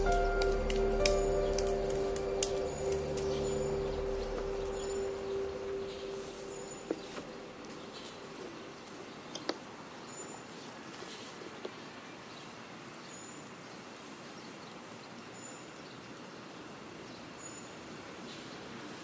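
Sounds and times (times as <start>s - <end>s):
outdoor ambience: 0.0s - 19.0s.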